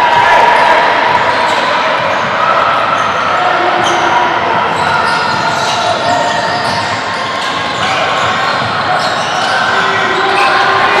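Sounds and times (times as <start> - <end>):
voices echoing in hall: 0.0 - 11.0.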